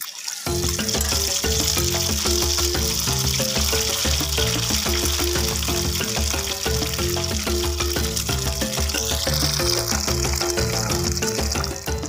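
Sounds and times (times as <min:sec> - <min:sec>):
hot oil sizzling: 0:00.0 - 0:12.0
music with pulsing bass: 0:00.5 - 0:12.0.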